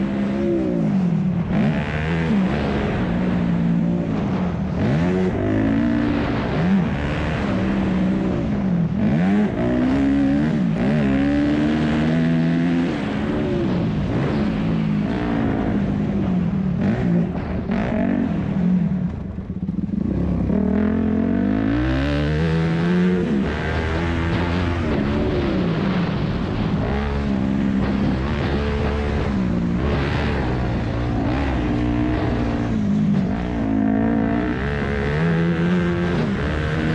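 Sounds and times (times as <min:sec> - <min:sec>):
motocross engine revving: 0:00.0 - 0:36.9.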